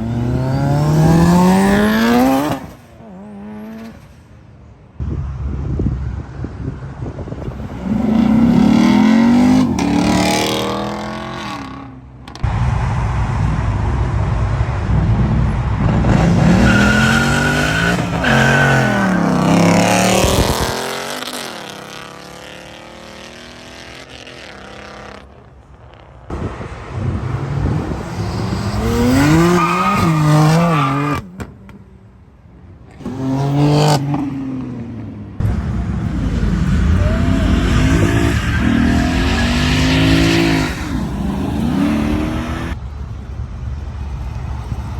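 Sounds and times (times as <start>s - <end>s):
cars accelerating hard: 0.0s - 4.1s, 7.2s - 25.4s, 26.3s - 31.5s, 32.9s - 42.8s.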